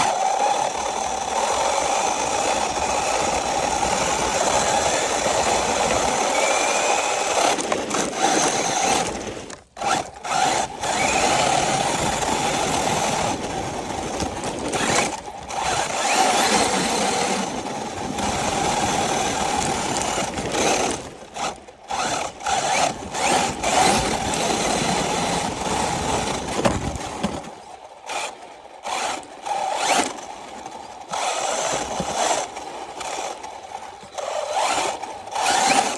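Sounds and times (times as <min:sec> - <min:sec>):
toy car motor whining: 0:00.0 - 0:35.9.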